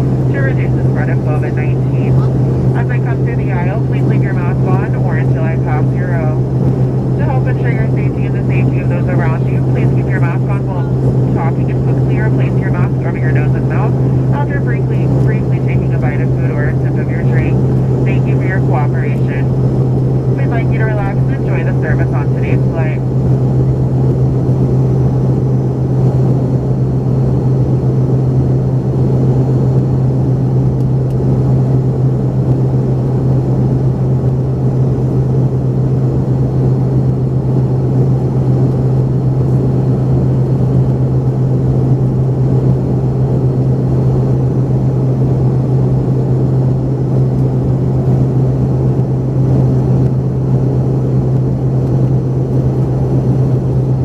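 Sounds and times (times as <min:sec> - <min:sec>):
aircraft cabin drone: 0:00.0 - 0:54.0.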